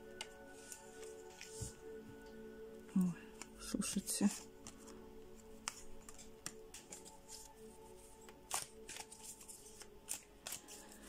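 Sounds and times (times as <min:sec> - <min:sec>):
cards being shuffled: 0:00.1 - 0:01.8, 0:03.3 - 0:11.0.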